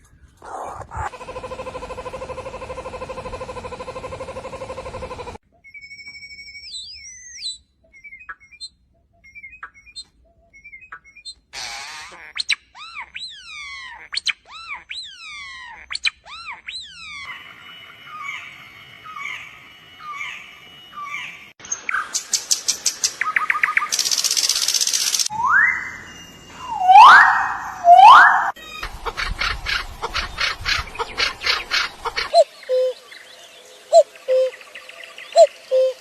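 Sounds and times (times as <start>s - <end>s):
birds calling: 0.0s - 5.4s, 6.7s - 36.0s.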